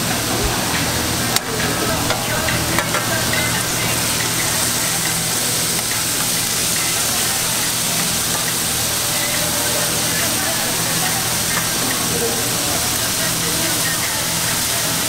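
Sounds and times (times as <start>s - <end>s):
patties sizzling on a griddle: 0.0s - 15.0s
metal spatulas clicking on griddle: 1.4s - 14.1s.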